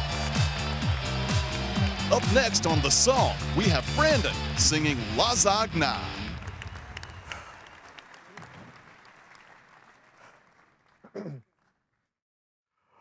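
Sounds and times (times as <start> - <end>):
audience applause: 0.0 - 11.1.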